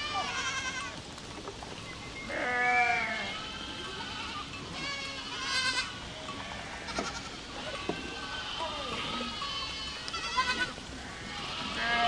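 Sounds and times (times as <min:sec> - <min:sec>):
goats bleating: 0:00.0 - 0:01.0, 0:02.3 - 0:12.0.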